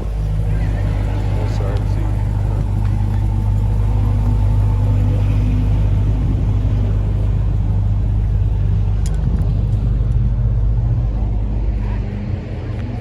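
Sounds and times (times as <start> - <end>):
car engine deep exhaust rumble: 0.0 - 13.0.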